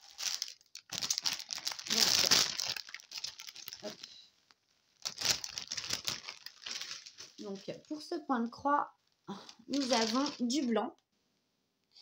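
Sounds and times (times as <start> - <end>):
crinkly packaging rustling: 0.0 - 10.8.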